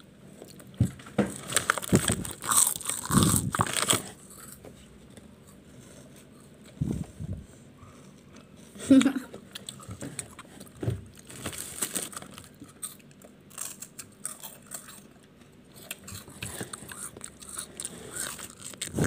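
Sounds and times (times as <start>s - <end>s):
wafers crunching while chewed: 0.3s - 6.9s, 9.4s - 19.0s.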